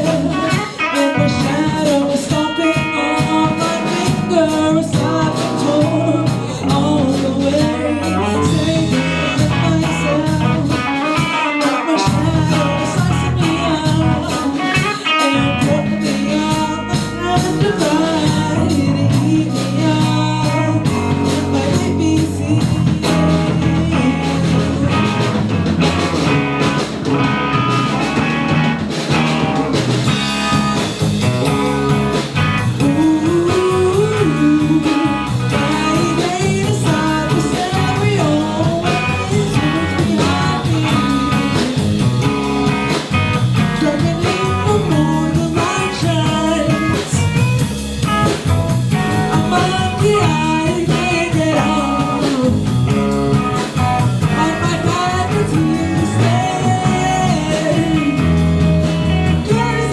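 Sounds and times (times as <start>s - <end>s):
bending melody line: 0.0s - 59.9s
live rock band playing: 0.0s - 59.9s.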